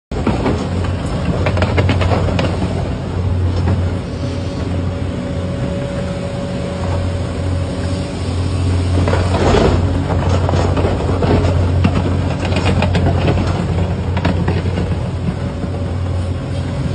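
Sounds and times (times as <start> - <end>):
excavator engine under load: 0.1 - 16.9
hydraulic whine: 0.1 - 16.9.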